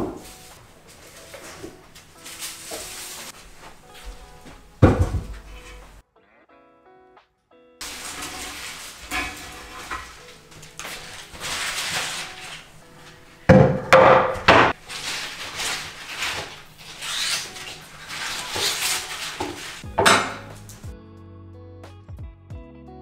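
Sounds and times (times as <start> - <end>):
rustling of stems and leaves: 0.0 - 6.0, 7.8 - 20.8
guitar music: 0.0 - 15.1, 19.7 - 23.0.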